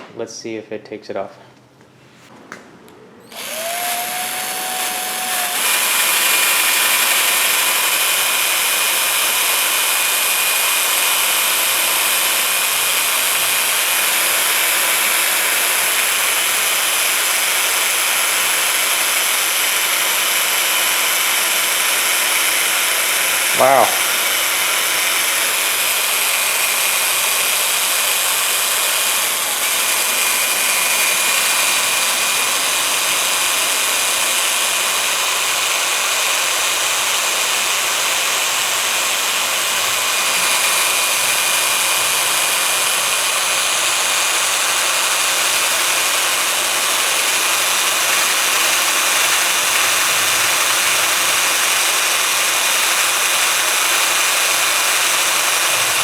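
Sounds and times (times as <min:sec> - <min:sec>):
electric drill motor whine: 0:03.2 - 0:56.0.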